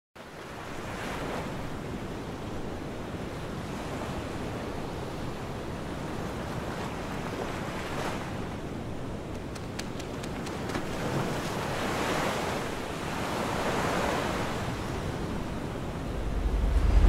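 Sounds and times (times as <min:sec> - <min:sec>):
ocean surf washing on shore: 0:00.4 - 0:17.0.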